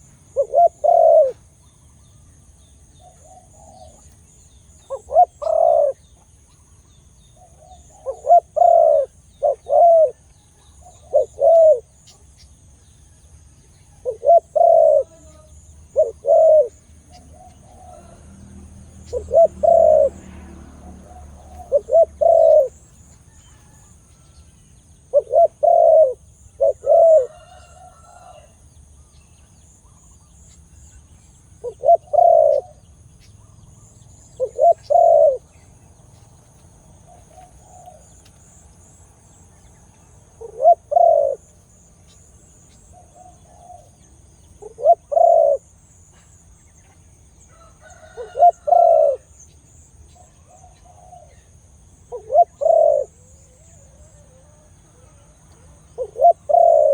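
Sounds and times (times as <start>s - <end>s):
dove cooing: 0.0s - 2.2s, 2.8s - 6.3s, 7.2s - 12.6s, 13.8s - 28.6s, 31.4s - 35.5s, 37.0s - 39.3s, 40.3s - 56.9s.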